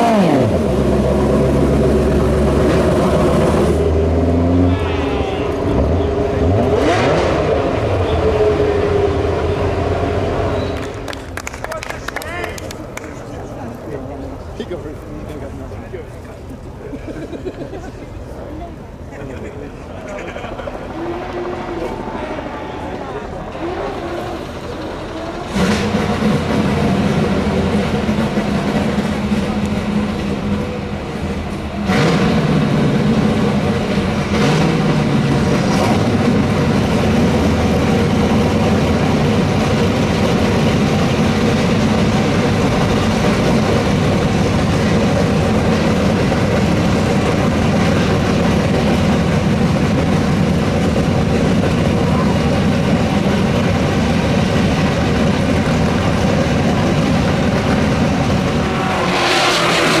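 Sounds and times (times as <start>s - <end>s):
racing car engine running: 0.0s - 11.4s, 20.2s - 60.0s.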